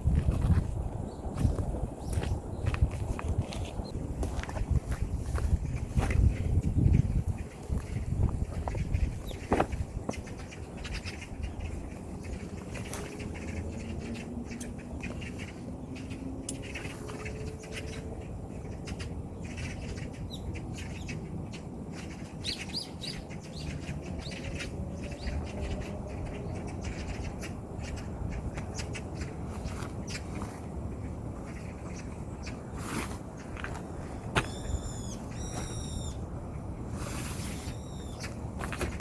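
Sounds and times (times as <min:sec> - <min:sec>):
birds chirping: 0:03.5 - 0:39.0.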